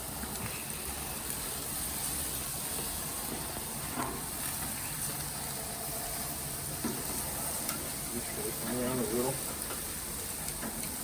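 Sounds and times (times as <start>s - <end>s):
steaks sizzling on a grill: 0.0s - 11.0s.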